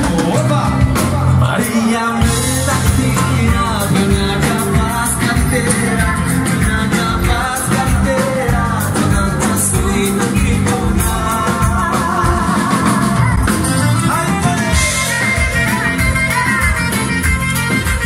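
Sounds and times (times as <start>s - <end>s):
person singing: 0.0s - 17.2s
live band dance tune: 0.0s - 18.0s
steady drum beat: 0.0s - 18.0s.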